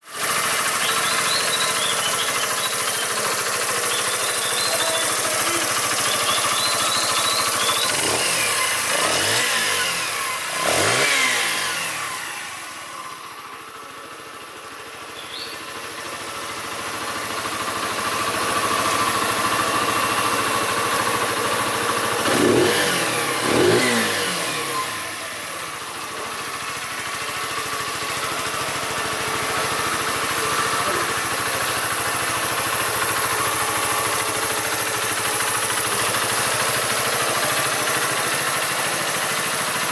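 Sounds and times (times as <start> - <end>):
motorcycle engine idling: 0.0 - 39.9
motorcycle throttle blips: 0.2 - 13.3, 15.0 - 39.9.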